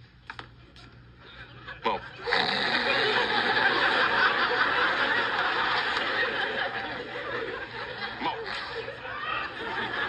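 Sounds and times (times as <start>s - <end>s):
audience laughing through a speaker: 1.2s - 10.0s.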